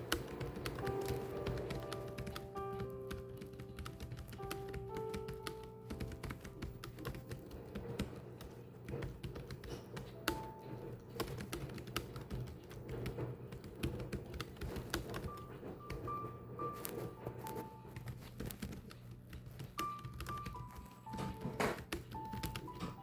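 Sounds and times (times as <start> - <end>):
keyboard keys clicking: 0.0 - 23.0
soft background music: 0.0 - 23.0.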